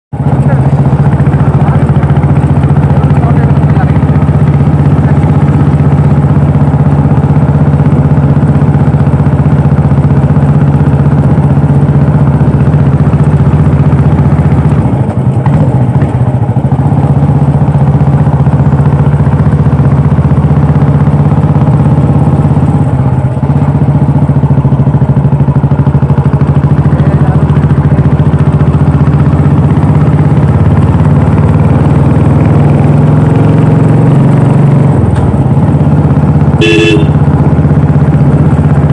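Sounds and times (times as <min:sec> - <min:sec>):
motorcycle engine and exhaust running: 0:00.1 - 0:38.9.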